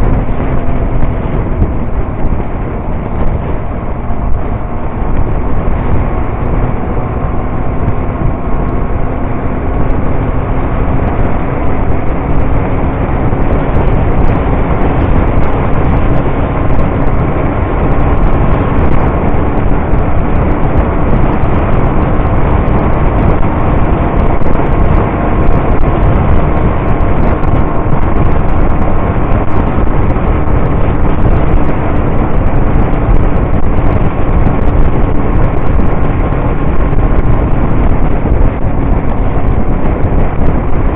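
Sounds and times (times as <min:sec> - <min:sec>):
motorcycle engine drone: 0:00.0 - 0:40.9
road rush: 0:00.0 - 0:40.9.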